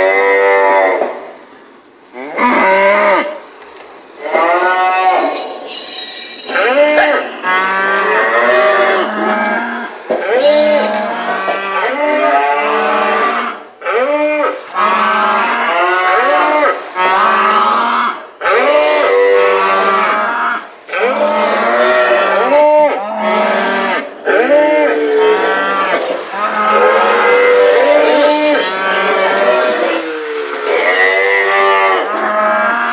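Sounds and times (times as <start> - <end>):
recorded cow mooing: 2.1 - 3.4, 4.2 - 32.9.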